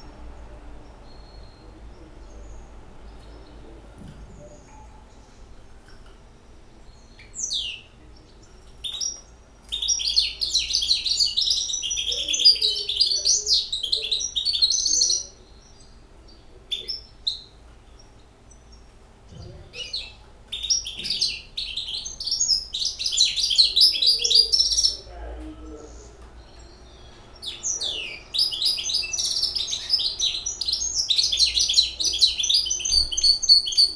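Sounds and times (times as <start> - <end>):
bird twittering song: 0.0 - 33.9.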